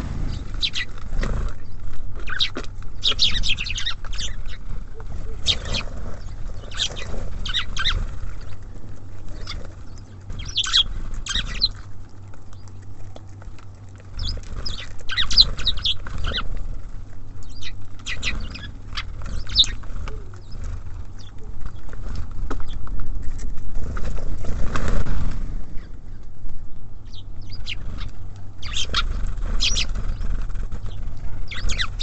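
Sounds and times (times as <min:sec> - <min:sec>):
small birds chirping: 0:00.0 - 0:32.0
steady low rumble: 0:00.0 - 0:32.0.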